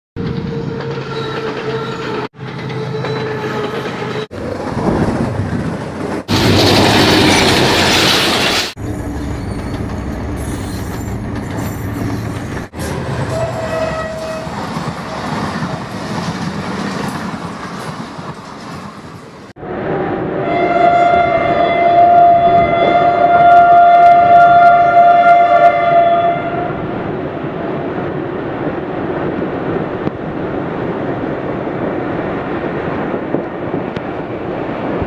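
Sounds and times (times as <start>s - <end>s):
train running on rails: 0.2s - 35.0s.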